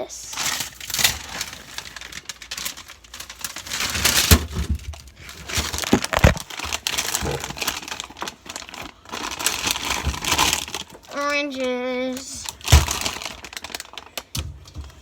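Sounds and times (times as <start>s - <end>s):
plastic packaging crinkling: 0.2s - 15.0s.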